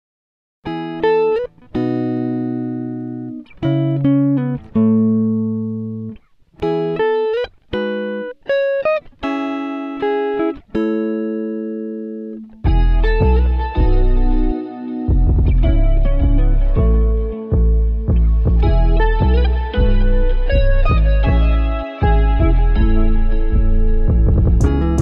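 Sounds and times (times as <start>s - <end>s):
slow guitar melody: 0.6s - 25.0s.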